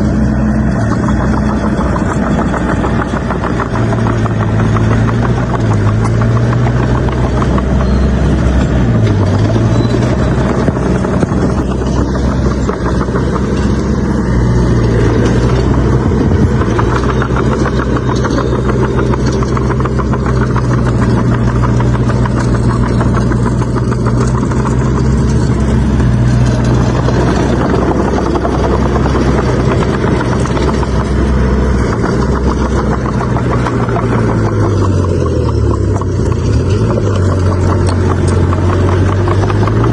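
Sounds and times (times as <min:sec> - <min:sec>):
heavy diesel engine running: 0:00.0 - 0:39.9
fine clattering rattle: 0:00.6 - 0:39.9.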